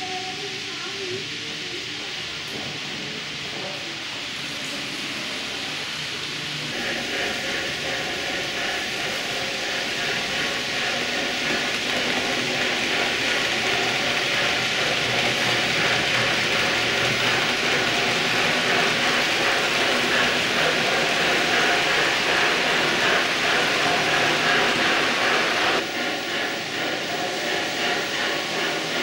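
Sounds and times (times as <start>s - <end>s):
model train wheels on rails: 0.0s - 29.0s.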